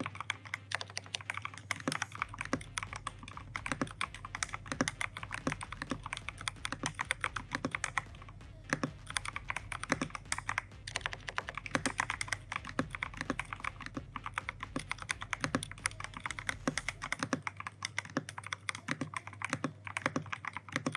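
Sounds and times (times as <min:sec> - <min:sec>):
fast mechanical keyboard typing: 0:00.0 - 0:20.9.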